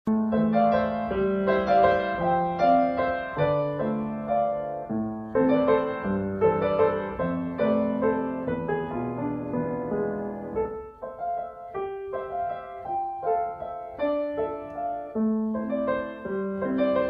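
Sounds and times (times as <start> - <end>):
gentle piano melody: 0.1 - 17.0.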